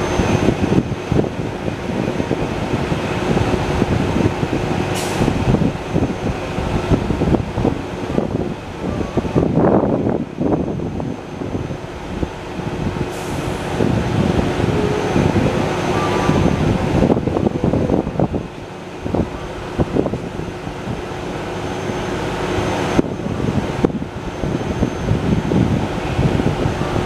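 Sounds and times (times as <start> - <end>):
truck engines running: 0.0 - 27.0
wind buffeting microphone: 0.0 - 27.0.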